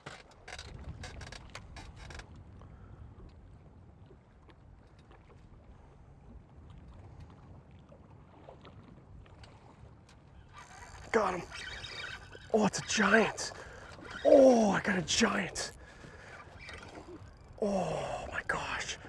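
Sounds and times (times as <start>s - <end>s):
small waves: 0.0s - 19.0s.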